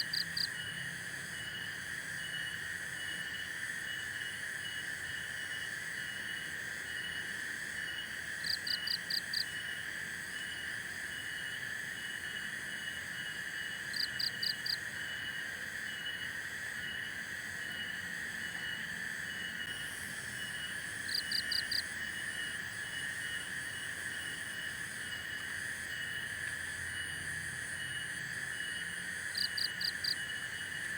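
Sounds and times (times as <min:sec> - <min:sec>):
crickets and insects chirping: 0:00.0 - 0:30.9.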